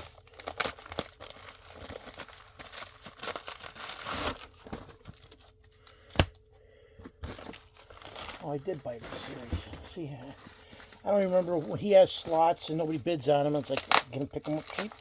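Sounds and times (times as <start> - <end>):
packaging rustling and crinkling: 0.0 - 6.4, 7.1 - 15.0.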